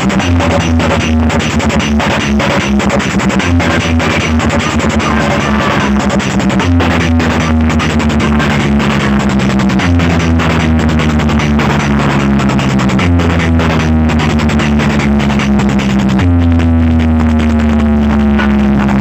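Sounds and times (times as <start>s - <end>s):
loud dance music with heavy bass: 0.0s - 19.0s.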